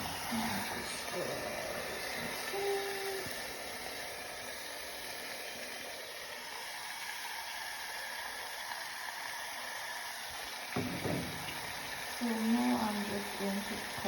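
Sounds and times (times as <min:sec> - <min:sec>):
chicken sizzling in pot: 0:00.0 - 0:14.0.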